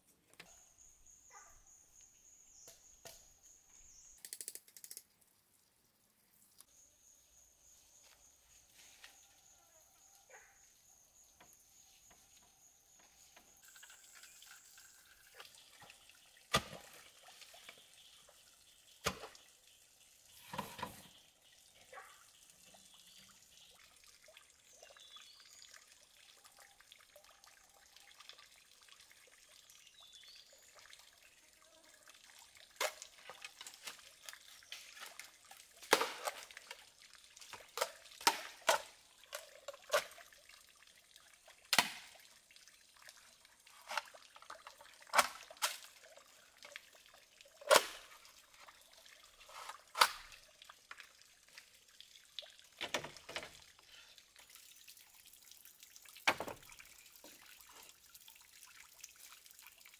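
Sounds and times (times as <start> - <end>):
water trickling: 0.0 - 59.9.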